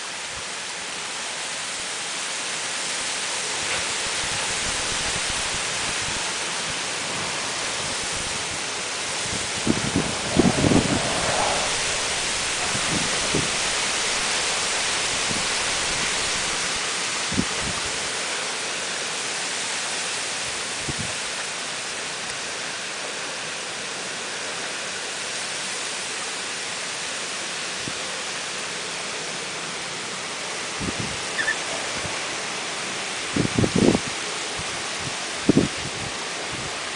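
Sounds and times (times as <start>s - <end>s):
heavy rain hissing: 0.0s - 36.9s
wind: 0.0s - 36.9s.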